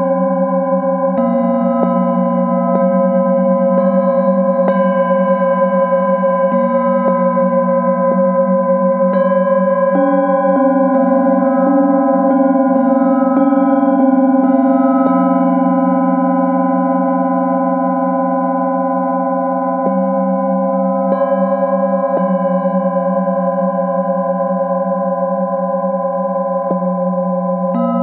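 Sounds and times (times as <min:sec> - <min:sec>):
metal singing bowls ringing: 0:00.0 - 0:28.0.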